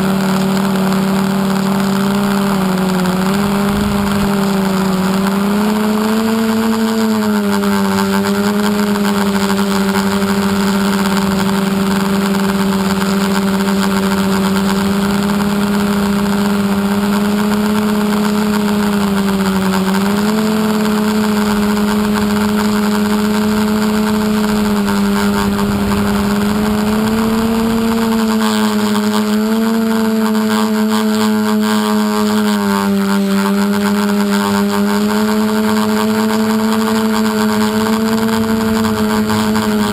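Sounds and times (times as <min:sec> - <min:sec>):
drone motors buzzing: 0:00.0 - 0:39.9.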